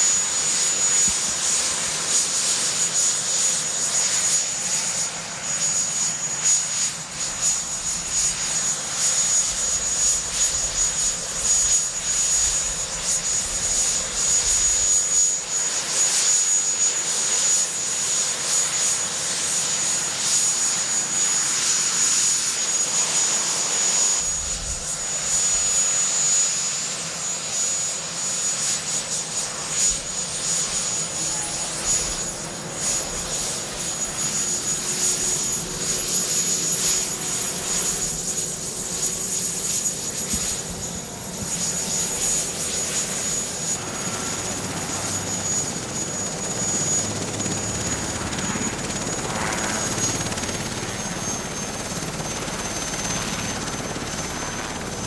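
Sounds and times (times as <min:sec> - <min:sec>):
helicopter turbine whine and roar: 0:00.0 - 0:55.0.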